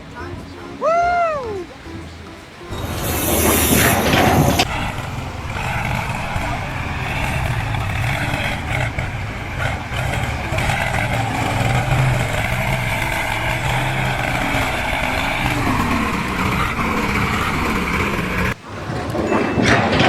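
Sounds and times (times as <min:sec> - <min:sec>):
heavy vehicle engine running: 0:01.7 - 0:20.0.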